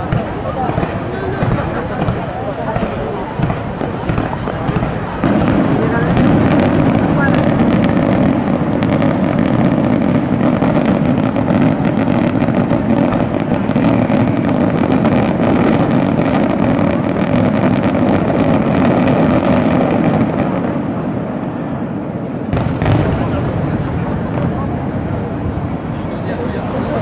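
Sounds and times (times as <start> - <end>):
fireworks bursting: 0.0 - 27.0
fireworks crackling: 0.0 - 27.0.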